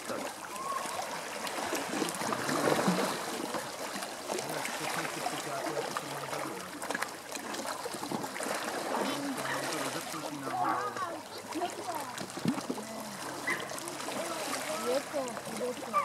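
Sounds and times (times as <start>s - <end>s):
sea water lapping at shore: 0.0s - 16.0s.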